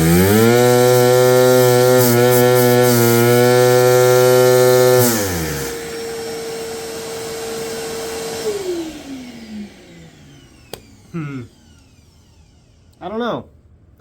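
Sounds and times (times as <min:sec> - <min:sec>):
vacuum engine droning: 0:00.0 - 0:13.2.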